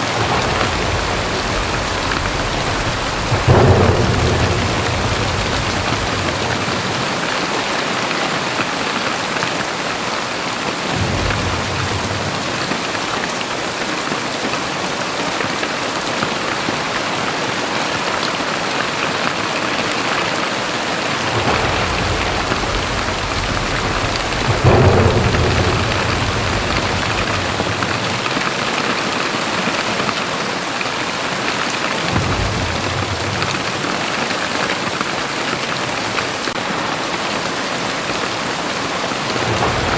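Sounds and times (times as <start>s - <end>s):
thunder rumbling: 0.0s - 15.5s, 18.6s - 30.4s, 31.0s - 39.9s
heavy rain pouring: 0.0s - 39.9s.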